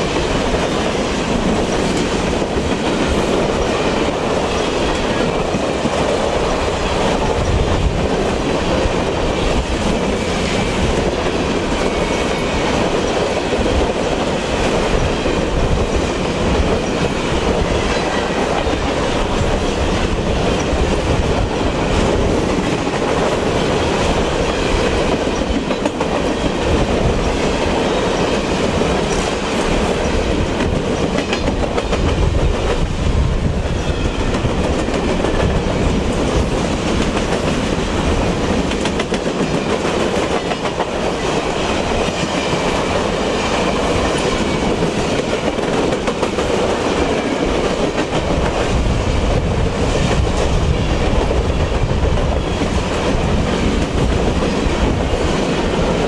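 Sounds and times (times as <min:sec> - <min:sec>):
steel wheels rolling on rail: 0:00.0 - 0:56.0.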